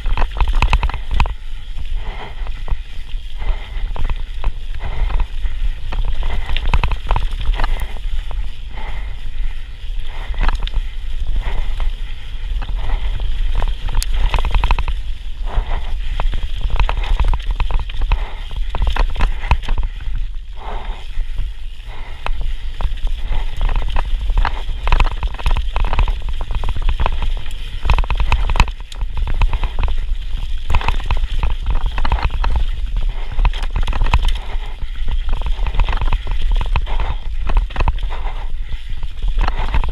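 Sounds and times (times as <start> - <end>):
bike rattling clicks and knocks: 0.0 - 39.9
tyres on dirt: 0.0 - 39.9
wind buffeting microphone: 0.0 - 39.9.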